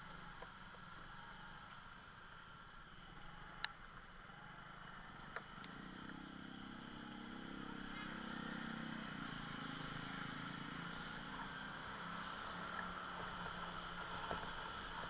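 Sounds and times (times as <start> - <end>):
faint motorbike engine hum: 0.0 - 15.0.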